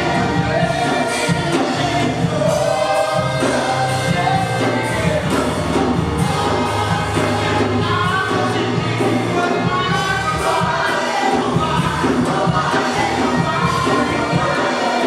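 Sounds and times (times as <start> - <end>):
band with bass and drums: 0.0 - 15.0
group singing worship music: 0.0 - 15.0.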